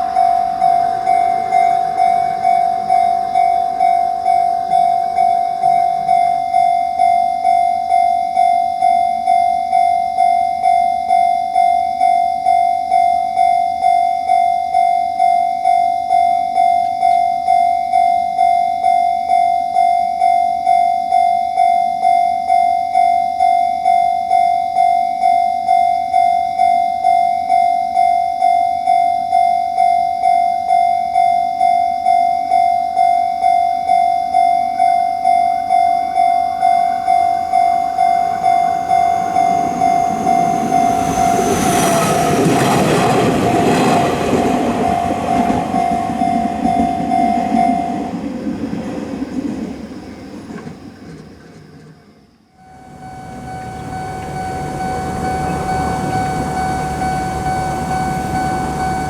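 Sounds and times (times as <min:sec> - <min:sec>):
train passing: 0:00.0 - 0:20.8, 0:30.2 - 0:59.0
level crossing alarm dinging: 0:00.0 - 0:49.4, 0:52.6 - 0:59.0.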